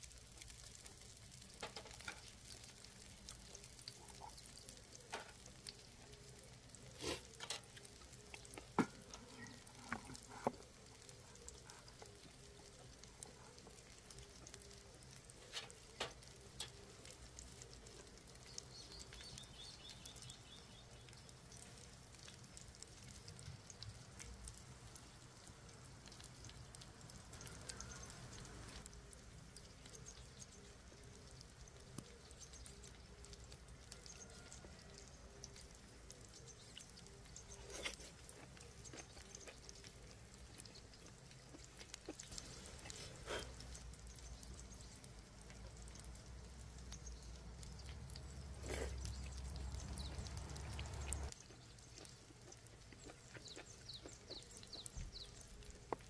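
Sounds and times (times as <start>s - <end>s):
meat sizzling on a griddle: 0.0s - 56.0s.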